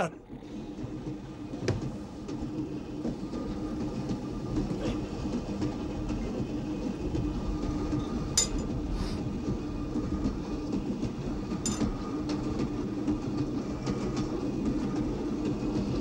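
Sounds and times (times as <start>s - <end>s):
faint hum: 0.0s - 14.5s
train wheels rumbling on rails: 0.1s - 16.0s.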